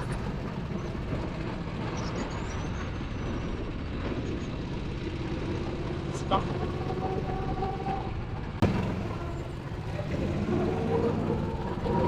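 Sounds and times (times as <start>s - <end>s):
go-kart engines running: 0.0s - 12.0s.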